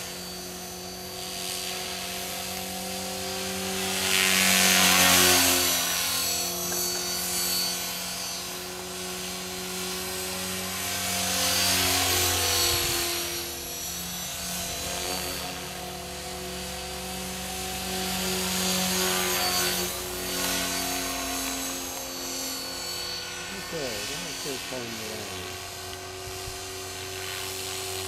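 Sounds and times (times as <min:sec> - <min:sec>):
helicopter motor whine: 0:00.0 - 0:28.0.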